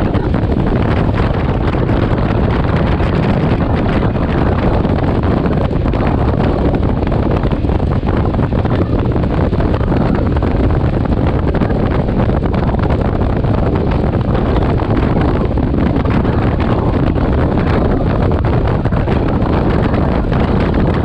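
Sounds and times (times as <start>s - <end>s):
motorcycle running: 0.0s - 21.0s
wind buffeting microphone: 0.0s - 21.0s.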